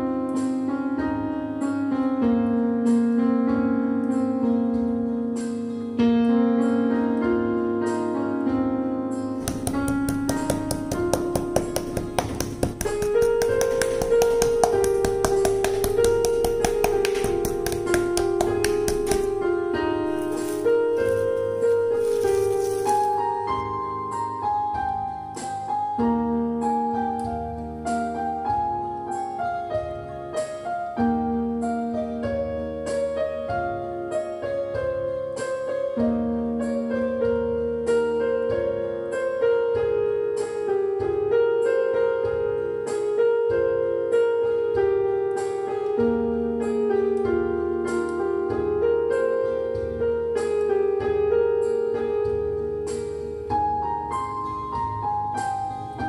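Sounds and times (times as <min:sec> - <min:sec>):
gentle piano music: 0:00.0 - 0:56.0.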